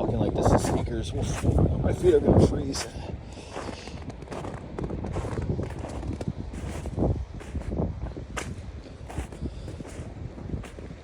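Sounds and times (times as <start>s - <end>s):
wind buffeting microphone: 0.0s - 11.0s
footsteps in snow: 0.5s - 11.0s.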